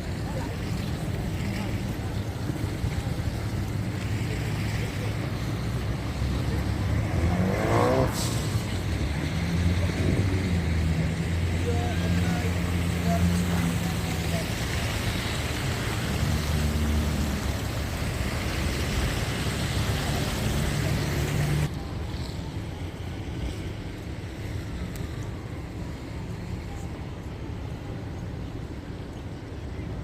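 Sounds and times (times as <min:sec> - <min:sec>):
vehicle engines humming: 0:00.0 - 0:29.9
street ambience: 0:00.0 - 0:30.0.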